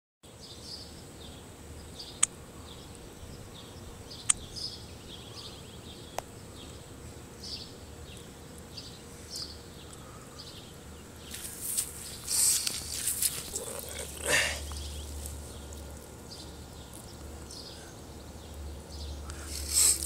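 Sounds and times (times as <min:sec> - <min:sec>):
background hiss: 0:00.3 - 0:20.0.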